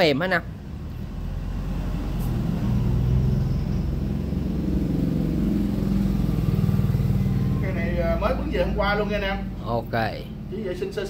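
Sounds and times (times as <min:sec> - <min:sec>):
vehicle engine running: 0:00.4 - 0:11.0.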